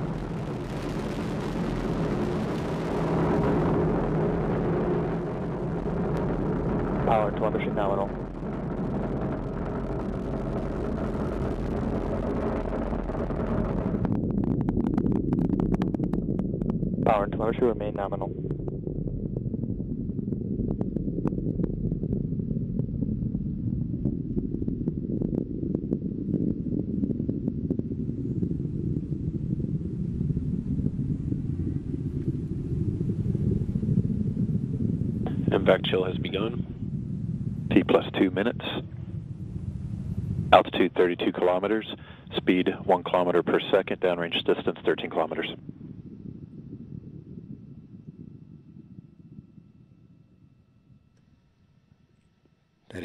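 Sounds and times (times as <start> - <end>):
sharp crackles: 0.0 - 49.2
rocket engine rumble: 0.0 - 53.0.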